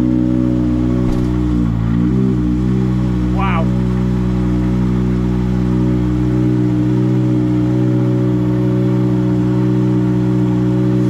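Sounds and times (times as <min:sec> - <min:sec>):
rally car engine idling: 0:00.0 - 0:11.0.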